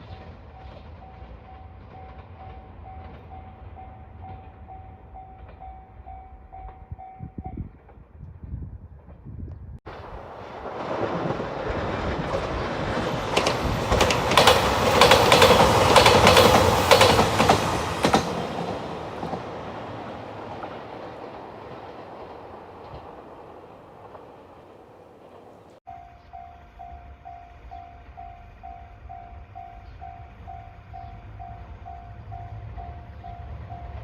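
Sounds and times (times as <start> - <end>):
diesel train passing: 0.0 - 8.2, 9.9 - 34.0.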